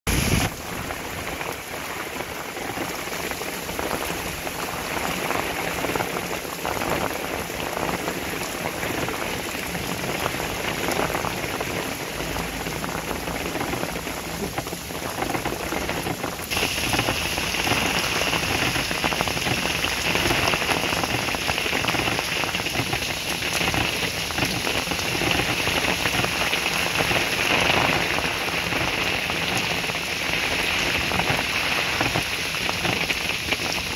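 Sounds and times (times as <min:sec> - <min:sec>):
heavy rain on a wet street: 0:00.1 - 0:33.9.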